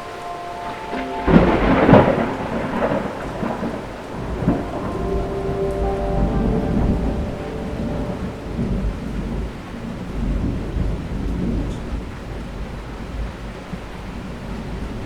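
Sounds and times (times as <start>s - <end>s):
thunder rumbling: 0.0s - 12.2s
steady rain: 0.0s - 15.0s.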